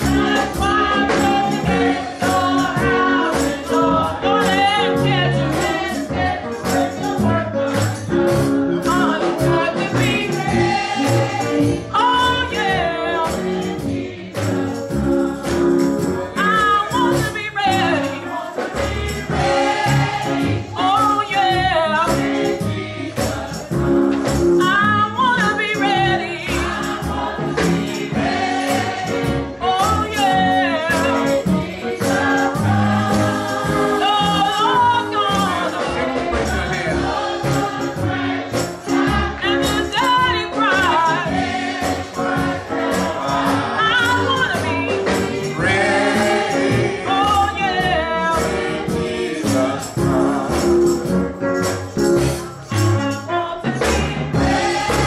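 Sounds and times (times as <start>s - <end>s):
gospel choir singing: 0.0s - 52.8s, 53.7s - 55.0s
instrumental accompaniment with beat: 0.0s - 55.0s.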